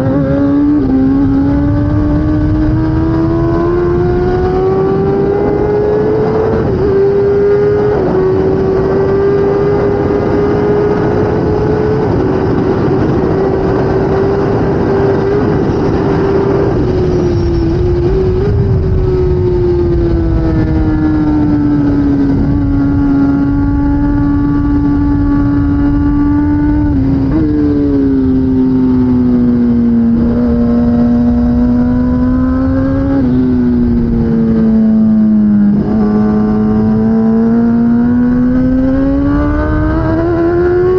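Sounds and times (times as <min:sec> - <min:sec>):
motorcycle engine racing: 0:00.0 - 0:40.9.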